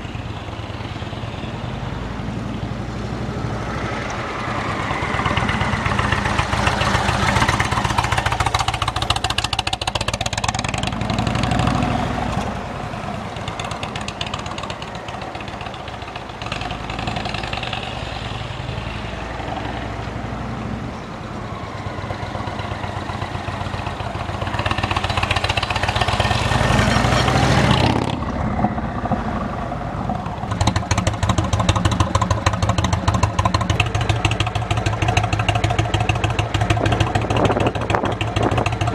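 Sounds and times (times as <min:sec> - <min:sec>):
motorcycle engine revving: 0:03.3 - 0:20.3, 0:22.0 - 0:38.9.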